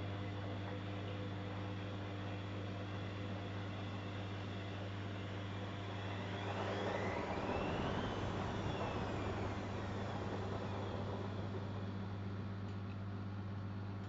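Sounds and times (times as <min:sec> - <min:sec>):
motor whine: 0:00.0 - 0:13.5
washing machine hum: 0:00.0 - 0:14.0.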